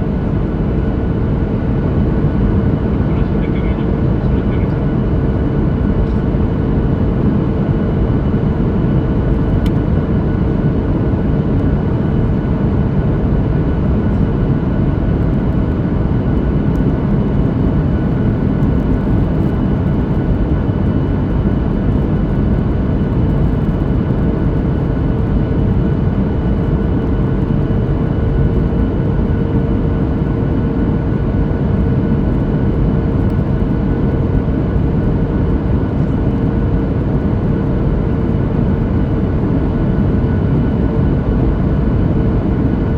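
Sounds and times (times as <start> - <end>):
jet engines droning: 0.0 - 42.9
steady hum: 0.0 - 42.9.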